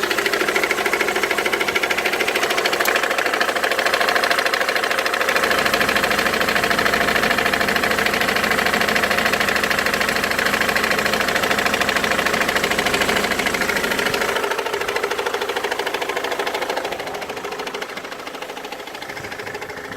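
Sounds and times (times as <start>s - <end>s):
diesel engine knocking: 0.0s - 19.9s.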